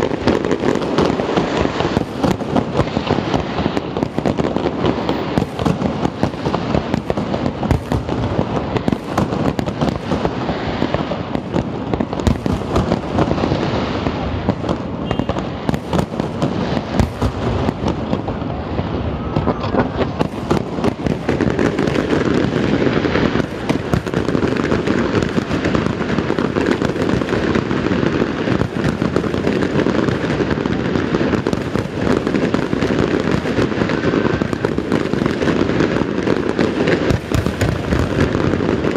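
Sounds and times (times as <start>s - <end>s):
fireworks bursts and crackle: 0.0s - 38.9s.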